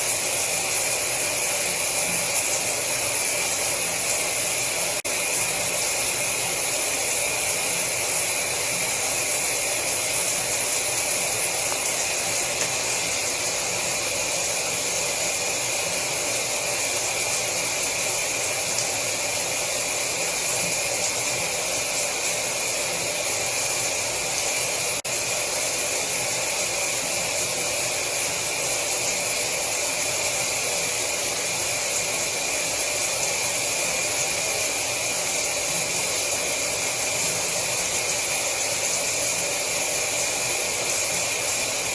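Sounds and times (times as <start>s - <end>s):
shower water running: 0.0s - 41.9s.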